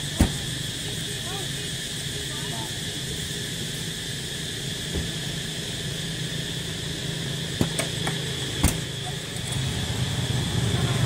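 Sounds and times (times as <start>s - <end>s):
high insect drone: 0.0s - 11.0s
low engine-like hum: 0.0s - 11.0s.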